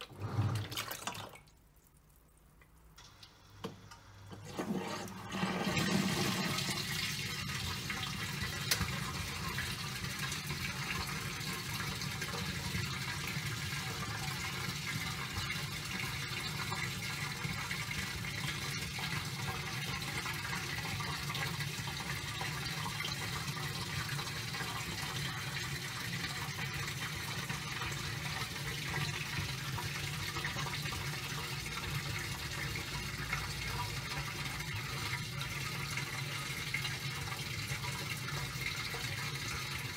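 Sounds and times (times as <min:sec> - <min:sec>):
water pouring into washing machine: 0:00.0 - 0:01.6, 0:03.0 - 0:39.9.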